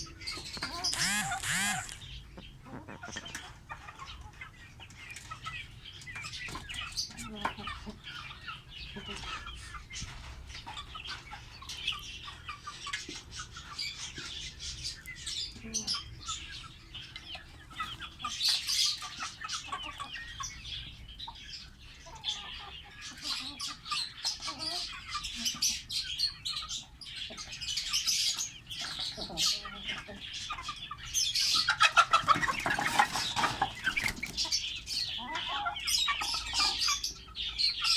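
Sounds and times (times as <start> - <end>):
lovebirds chirping: 0.0 - 37.9.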